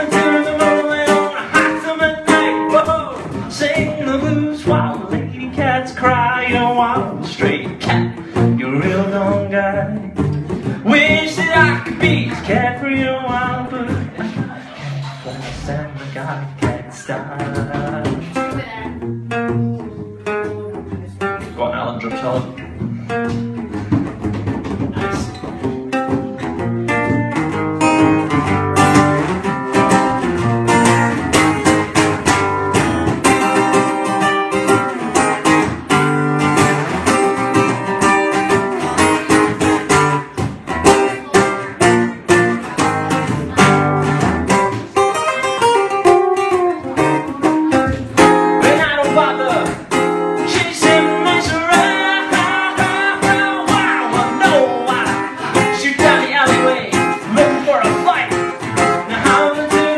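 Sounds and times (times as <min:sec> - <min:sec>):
acoustic guitar rockabilly instrumental: 0:00.0 - 0:59.9.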